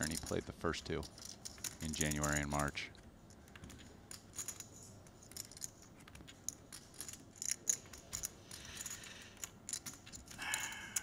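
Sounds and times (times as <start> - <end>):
poker chips clicking: 0.0 - 11.0.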